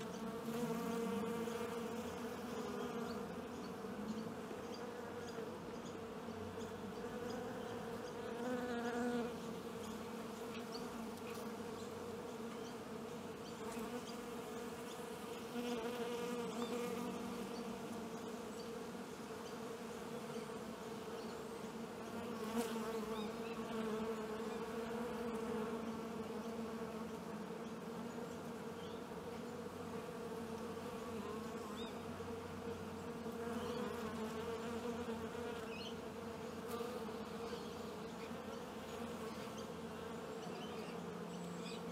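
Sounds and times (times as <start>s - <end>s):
honeybee colony buzzing: 0.0s - 41.9s.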